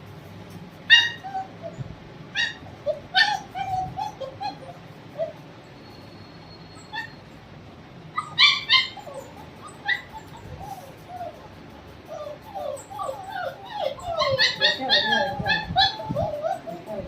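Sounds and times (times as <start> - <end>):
puppies yelping: 0.8 - 17.0
puppies whining: 0.9 - 17.0.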